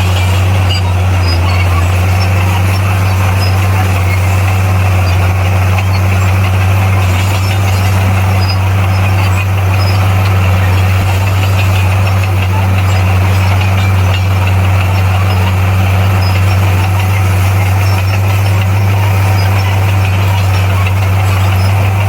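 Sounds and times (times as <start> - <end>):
bulldozer diesel engine humming: 0.0 - 22.0.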